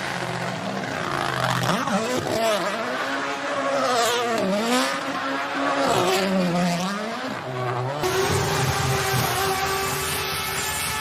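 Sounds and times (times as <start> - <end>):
car engine revving hard: 1.1 - 11.0.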